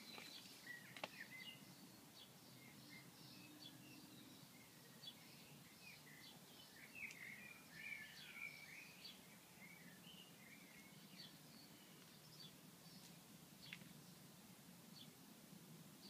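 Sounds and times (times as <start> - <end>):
songbirds chirping and singing: 0.0 - 15.2.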